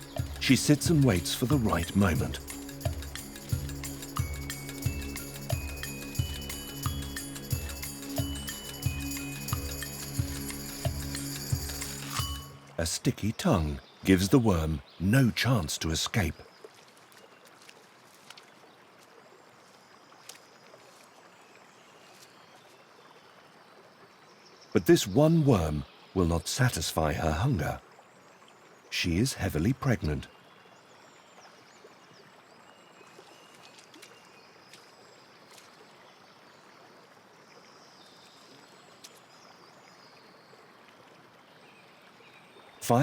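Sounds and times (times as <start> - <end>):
running water: 0.0 - 43.0.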